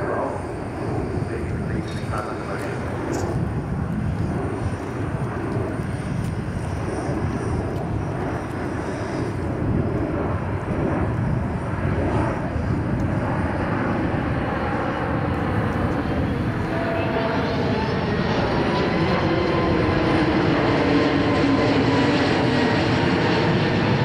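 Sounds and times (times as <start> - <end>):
jet airliner rumble overhead: 0.0 - 24.0.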